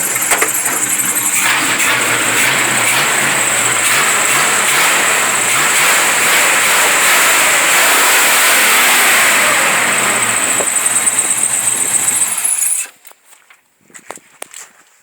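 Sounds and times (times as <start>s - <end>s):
pickup truck engine running: 0.0s - 12.8s.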